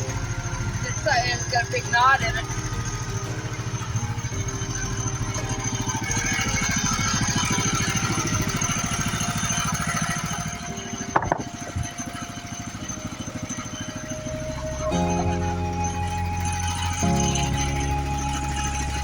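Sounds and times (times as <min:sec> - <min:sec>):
sawmill gas engine running: 0:00.0 - 0:19.0.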